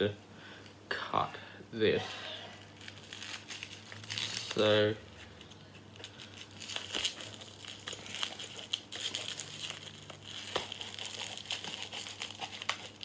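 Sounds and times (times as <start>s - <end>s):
plastic crinkling: 2.5s - 13.0s.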